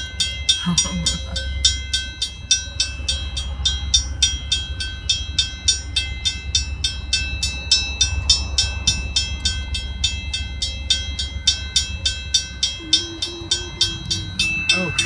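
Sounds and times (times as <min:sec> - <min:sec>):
railroad crossing bell ringing: 0:00.0 - 0:15.0
train rumbling: 0:00.0 - 0:15.0.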